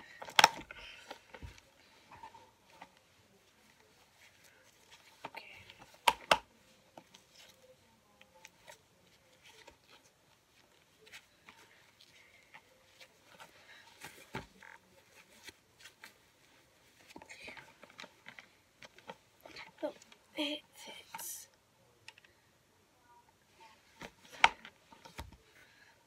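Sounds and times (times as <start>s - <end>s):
plastic doll handling rustling: 0.0s - 21.3s, 23.5s - 26.0s.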